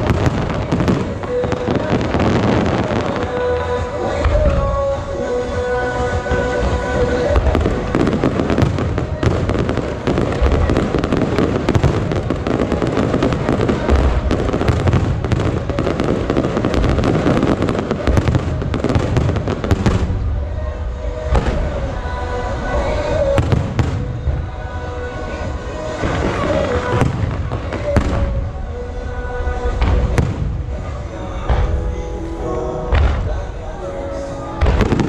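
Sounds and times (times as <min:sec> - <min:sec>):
fireworks bursting and crackling: 0:00.0 - 0:35.0
music playing: 0:00.0 - 0:35.0.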